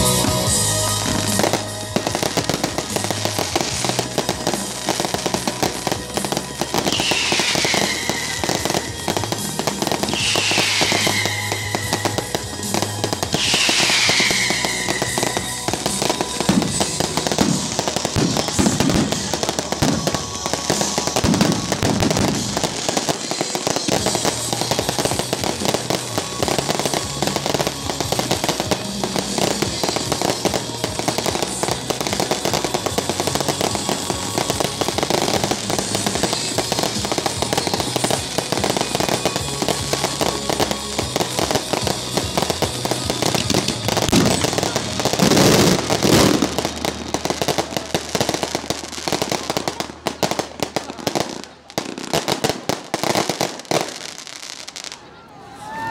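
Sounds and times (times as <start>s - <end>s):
fireworks bangs and crackling: 0.0s - 55.9s
music playing: 0.0s - 55.9s.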